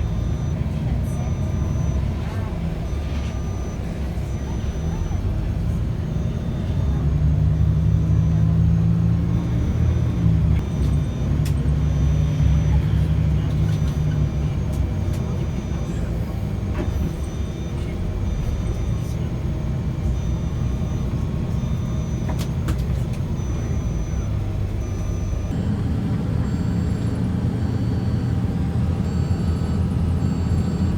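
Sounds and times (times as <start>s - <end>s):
vehicle engine drone and road noise: 0.0s - 30.9s.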